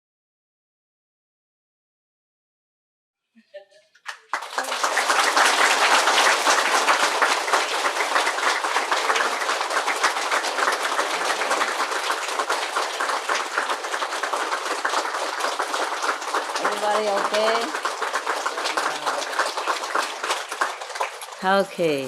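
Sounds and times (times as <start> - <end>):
audience applauding: 4.0 - 22.0.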